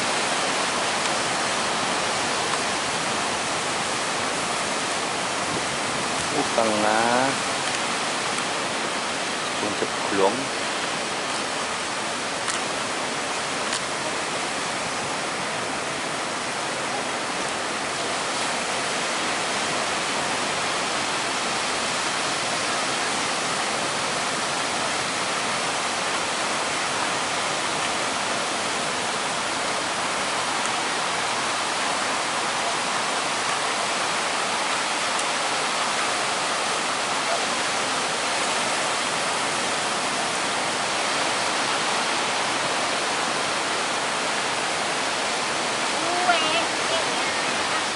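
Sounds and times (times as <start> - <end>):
rough surf roaring: 0.0 - 47.9.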